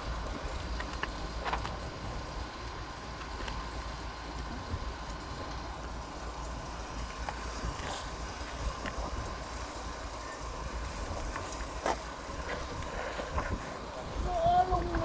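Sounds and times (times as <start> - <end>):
diesel engine rumbling: 0.0 - 15.0
faint steady whine: 0.0 - 15.0.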